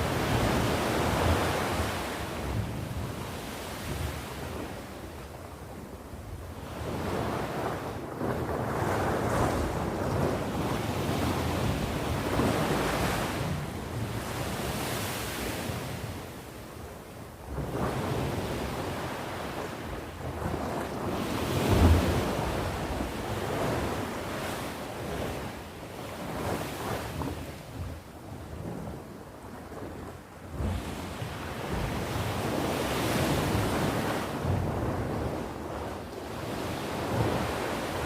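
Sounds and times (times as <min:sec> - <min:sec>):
ocean waves breaking on shore: 0:00.0 - 0:38.0.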